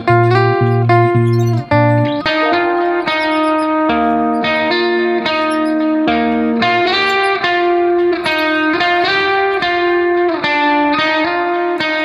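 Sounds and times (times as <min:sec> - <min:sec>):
slow plucked string melody: 0:00.0 - 0:12.0.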